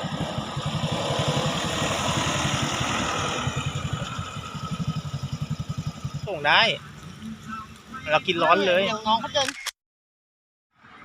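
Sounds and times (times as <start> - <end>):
small engine idling: 0.0 - 9.2.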